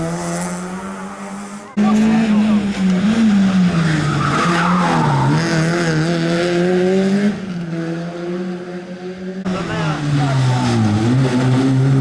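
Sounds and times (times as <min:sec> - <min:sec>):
tyres skidding: 0:00.0 - 0:07.5, 0:09.5 - 0:12.0
rally car engine accelerating: 0:00.0 - 0:12.0.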